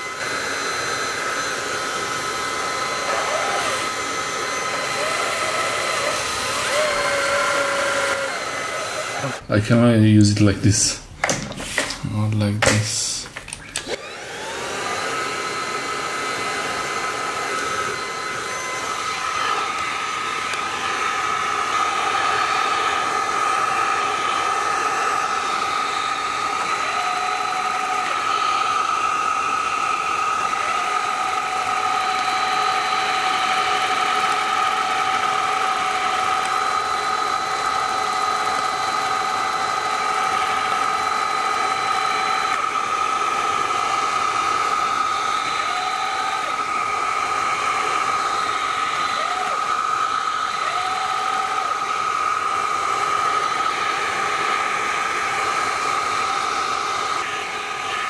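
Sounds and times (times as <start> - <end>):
vacuum cleaner motor whining: 0.0 - 10.2, 10.8 - 58.0.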